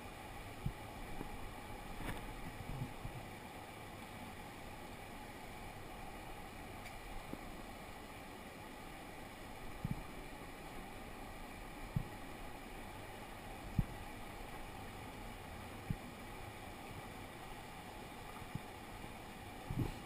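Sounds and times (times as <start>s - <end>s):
small stream running: 0.0s - 20.0s.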